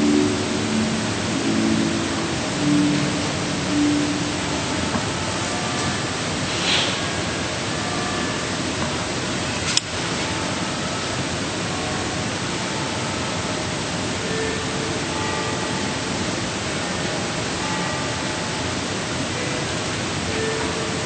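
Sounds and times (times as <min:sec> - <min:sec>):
recording noise hiss: 0:00.0 - 0:21.0.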